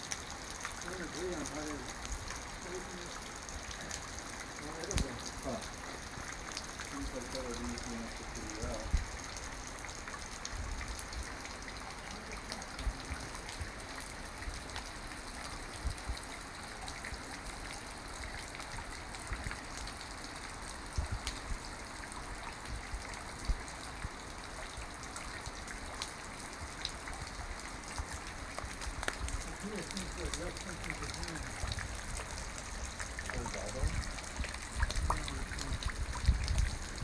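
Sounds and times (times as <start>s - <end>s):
water dripping into pool: 0.0s - 37.0s.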